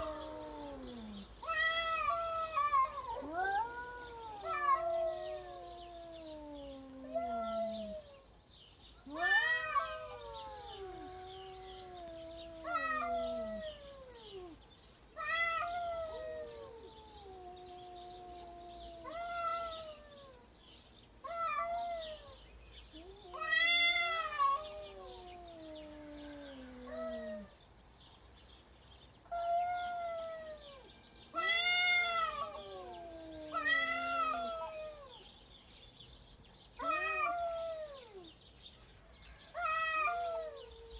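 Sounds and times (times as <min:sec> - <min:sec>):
cats yowling: 0:00.0 - 0:08.3, 0:09.0 - 0:14.6, 0:15.2 - 0:20.5, 0:21.2 - 0:27.6, 0:29.3 - 0:35.3, 0:36.8 - 0:38.4, 0:39.5 - 0:40.9.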